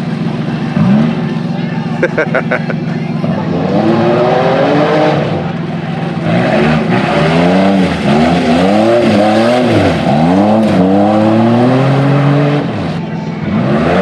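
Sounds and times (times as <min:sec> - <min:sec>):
car engines revving: 0:00.0 - 0:14.0
cars driving round a track: 0:00.0 - 0:14.0.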